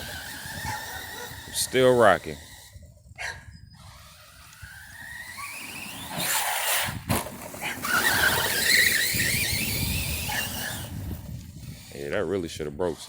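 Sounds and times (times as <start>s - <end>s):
electric motor whine: 0.0s - 12.3s.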